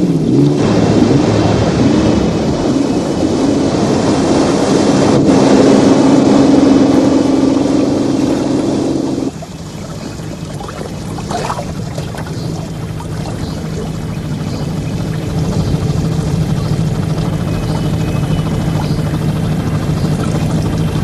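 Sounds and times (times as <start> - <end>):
boat engine running: 0.0 - 21.0
water rushing along hull: 0.0 - 21.0.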